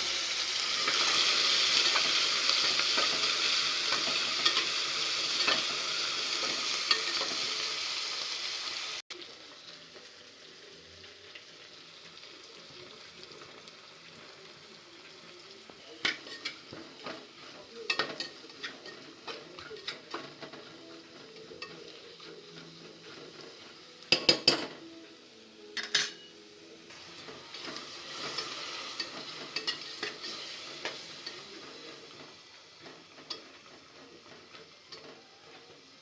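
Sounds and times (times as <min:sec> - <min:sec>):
food sizzling: 0:00.0 - 0:36.0.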